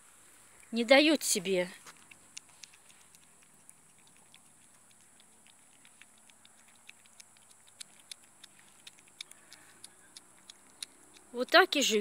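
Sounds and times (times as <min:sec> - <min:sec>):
cats lapping: 0:01.3 - 0:12.0.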